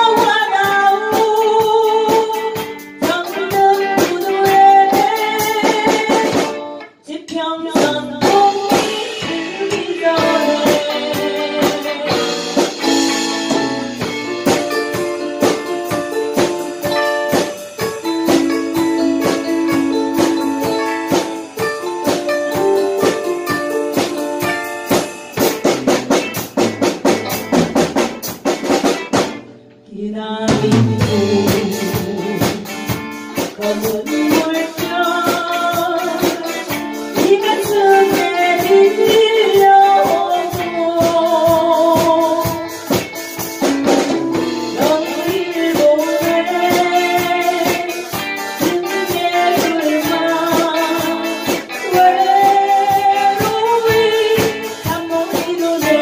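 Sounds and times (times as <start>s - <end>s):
woman singing: 0.0s - 24.9s, 29.8s - 43.0s, 44.3s - 56.0s
live band playing: 0.0s - 56.0s.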